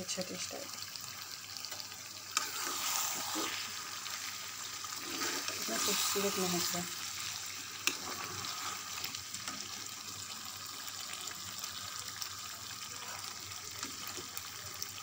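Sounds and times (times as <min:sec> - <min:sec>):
curry sizzling in frying pan: 0:00.0 - 0:15.0.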